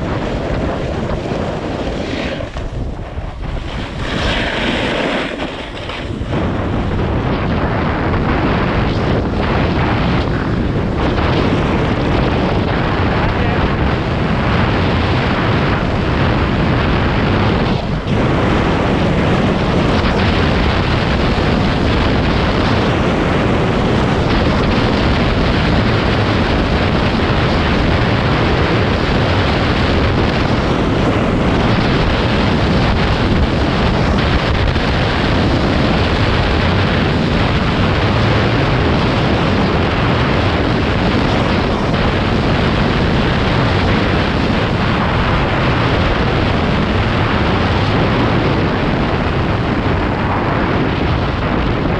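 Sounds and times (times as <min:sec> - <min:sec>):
skis running over hard snow: 0:00.0 - 0:51.9
wind buffeting microphone: 0:00.0 - 0:51.9.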